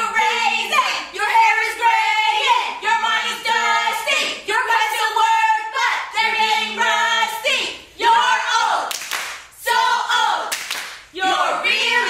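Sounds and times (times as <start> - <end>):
women chanting a cheer: 0.0 - 12.0.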